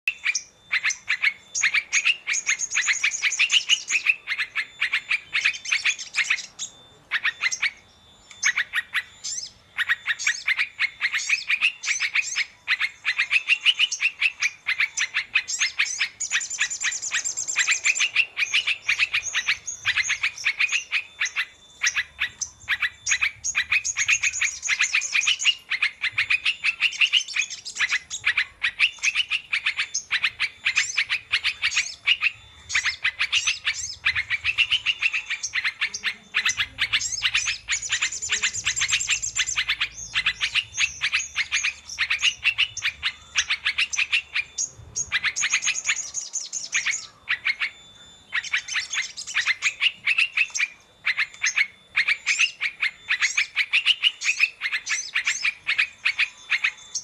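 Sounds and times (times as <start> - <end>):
bird chattering song: 0.0 - 57.0.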